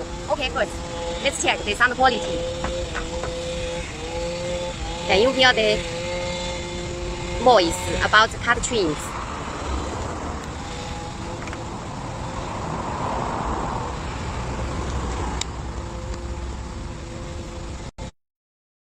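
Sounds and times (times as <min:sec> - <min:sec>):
road traffic rumble: 0:00.0 - 0:18.1
vehicle passing by: 0:00.0 - 0:18.1.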